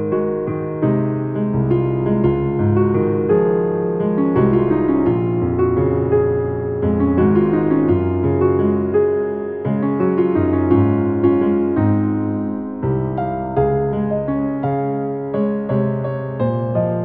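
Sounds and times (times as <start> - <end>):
piano pop ballad: 0.0 - 17.0.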